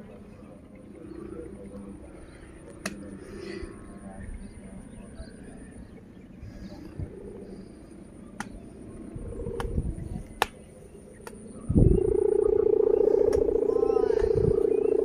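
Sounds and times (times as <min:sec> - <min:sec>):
kite hummer buzzing drone: 0:00.0 - 0:15.0.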